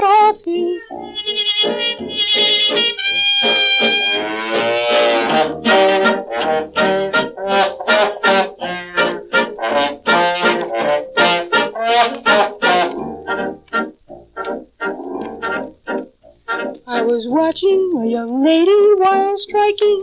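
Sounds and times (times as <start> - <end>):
dance band with horns playing: 0.9 - 17.1.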